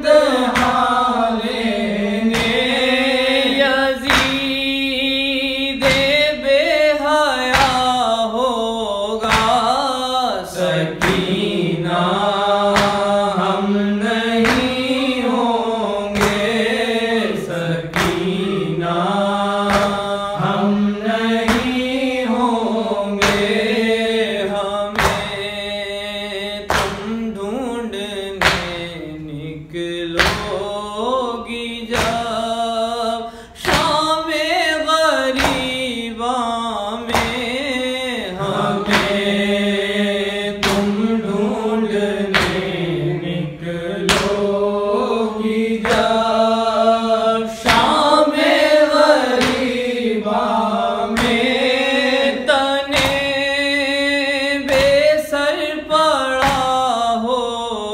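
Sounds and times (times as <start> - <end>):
sharp rhythmic thump: 0.0 - 8.4, 9.2 - 27.4, 28.2 - 29.3, 30.1 - 55.6, 56.3 - 57.3
man singing a lament: 0.0 - 57.9.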